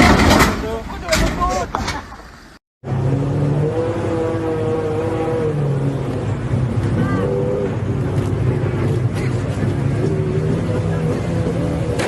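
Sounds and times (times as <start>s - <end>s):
road noise: 0.0s - 12.0s
vehicle engine hum: 1.7s - 12.0s.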